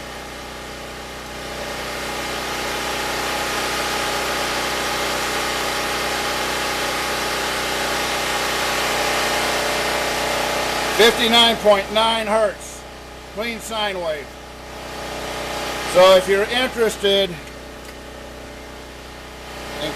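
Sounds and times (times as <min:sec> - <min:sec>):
generator engine running: 0:00.0 - 0:19.9.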